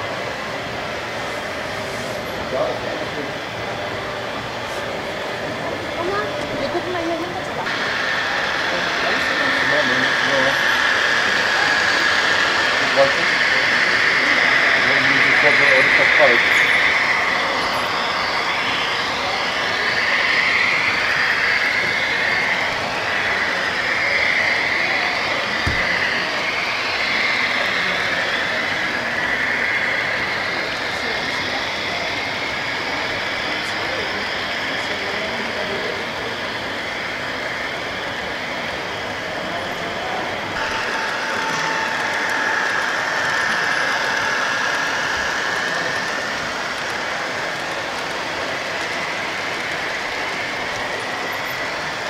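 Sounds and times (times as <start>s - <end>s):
high whine: 0.0s - 52.0s
model train wheels rolling on track: 0.0s - 52.0s.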